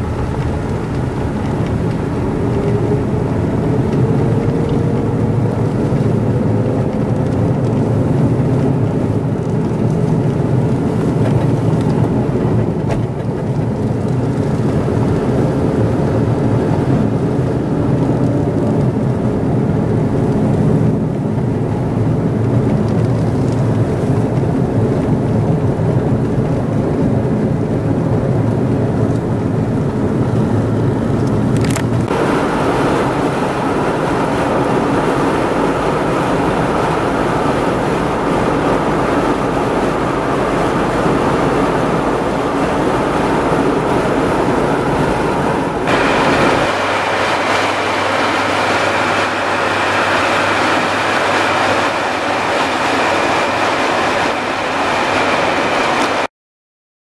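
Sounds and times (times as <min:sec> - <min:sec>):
car engine hum: 0:00.0 - 0:56.3
tyre road noise: 0:00.0 - 0:56.3.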